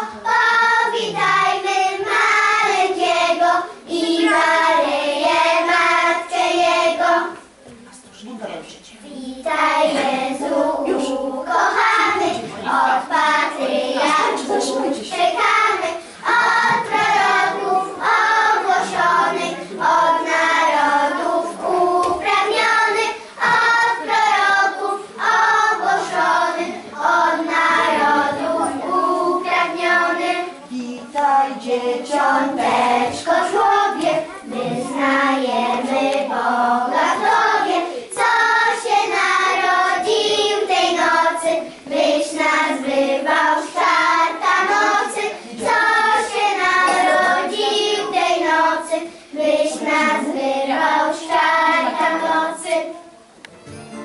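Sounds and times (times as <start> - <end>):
young children singing: 0.0 - 7.6, 9.1 - 53.4.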